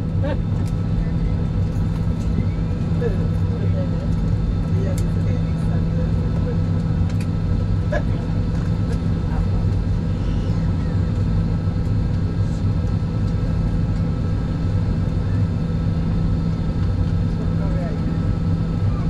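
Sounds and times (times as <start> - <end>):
jet engine drone in cabin: 0.0 - 19.0.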